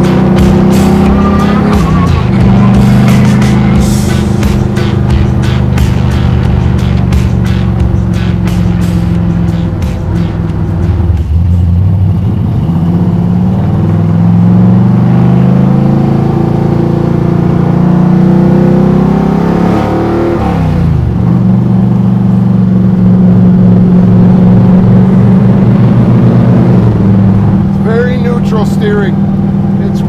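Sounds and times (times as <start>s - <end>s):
car engine under load: 0.0s - 30.0s.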